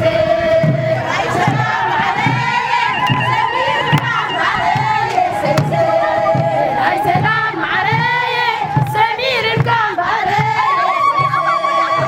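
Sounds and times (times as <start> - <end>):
steady low beat: 0.0 - 10.5
women singing together: 0.0 - 12.0.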